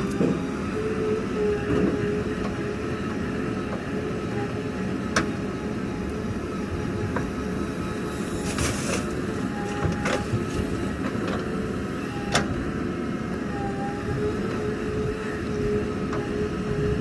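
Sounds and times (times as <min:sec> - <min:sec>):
faint constant whine: 0:00.0 - 0:17.0
heavy diesel machinery running: 0:00.0 - 0:17.0.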